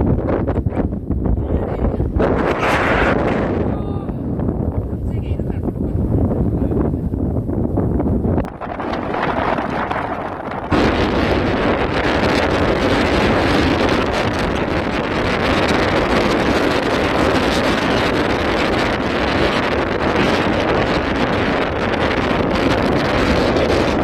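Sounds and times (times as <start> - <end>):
wind blowing across microphone: 0.0 - 24.0.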